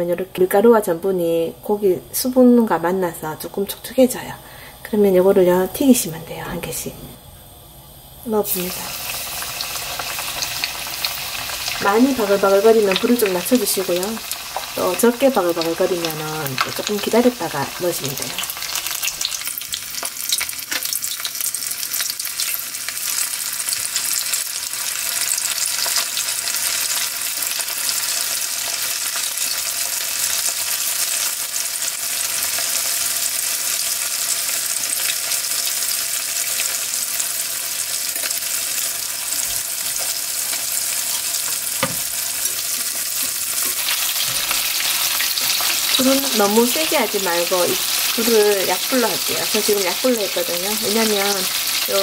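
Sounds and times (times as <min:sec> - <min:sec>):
chicken deep-frying in oil: 0:08.2 - 0:52.0.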